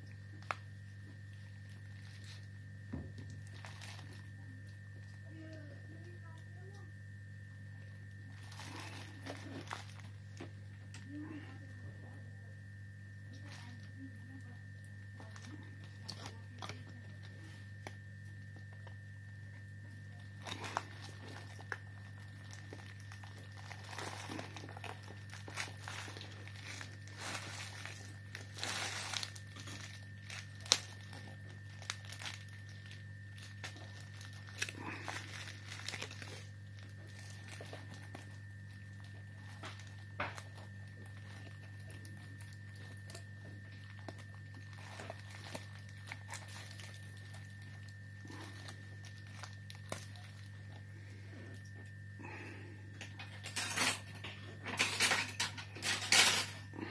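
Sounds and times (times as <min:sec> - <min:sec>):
plastic film and bubble wrap crinkling: 0:00.0 - 0:56.9
steady electrical hum: 0:00.0 - 0:56.9.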